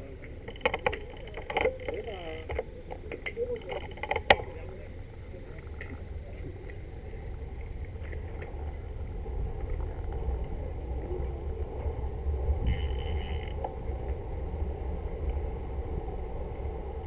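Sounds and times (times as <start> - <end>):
road and tyre noise: 0.0 - 17.0
wind rumbling on microphone: 0.0 - 17.0.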